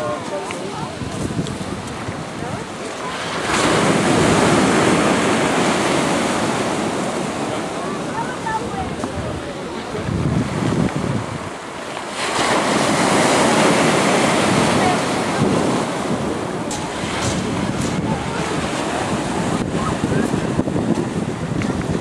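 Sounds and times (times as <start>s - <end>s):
surf breaking on pebble beach: 0.0s - 22.0s
wind buffeting microphone: 0.0s - 22.0s.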